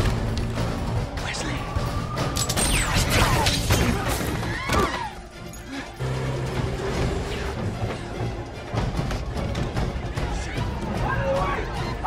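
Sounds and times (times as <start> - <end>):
action film music: 0.0 - 12.0.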